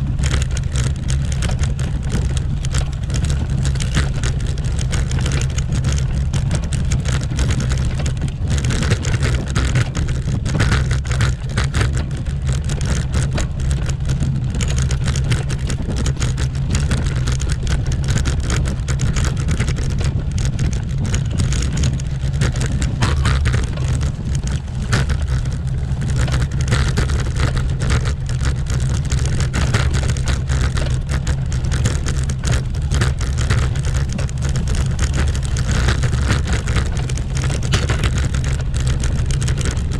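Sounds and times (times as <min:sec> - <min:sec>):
bicycle rattling over cobblestones: 0:00.0 - 0:39.9.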